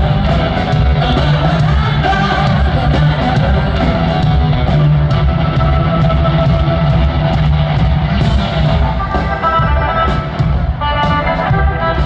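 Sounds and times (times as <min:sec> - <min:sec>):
drums: 0:00.0 - 0:12.0
electric guitar: 0:00.0 - 0:12.0
heavy bass: 0:00.0 - 0:12.0
rock band playing live: 0:00.0 - 0:12.0.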